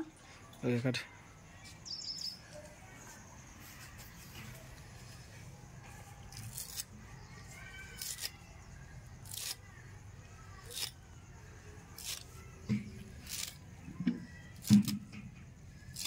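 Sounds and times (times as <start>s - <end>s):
faint bird chirps: 0.0s - 14.7s.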